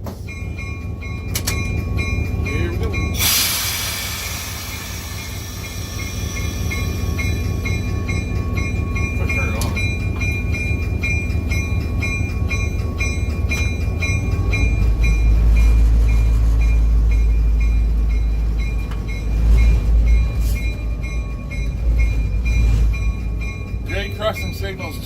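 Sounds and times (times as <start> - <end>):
diesel engine rumble: 0.0 - 25.0
locomotive bell ringing: 0.0 - 25.0.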